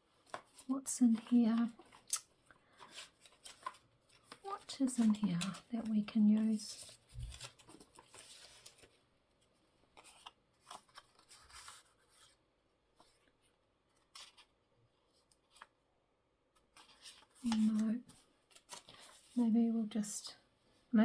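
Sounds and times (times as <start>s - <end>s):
paper rustling: 0.1s - 9.1s, 9.9s - 15.8s, 16.6s - 19.5s.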